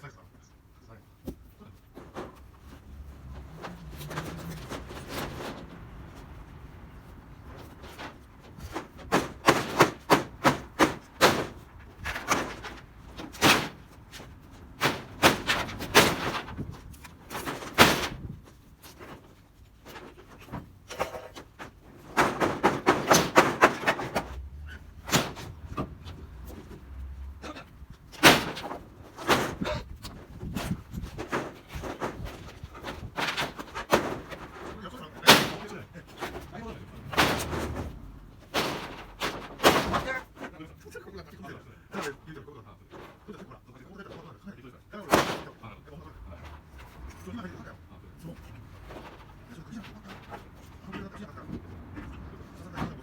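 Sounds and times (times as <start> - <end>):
sheet metal clattering and banging: 2.0 - 40.8, 45.0 - 53.0.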